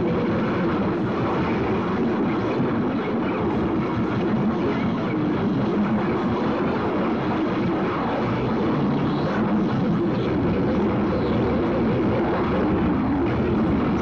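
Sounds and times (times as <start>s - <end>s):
harsh distorted noise music: 0.0s - 14.0s.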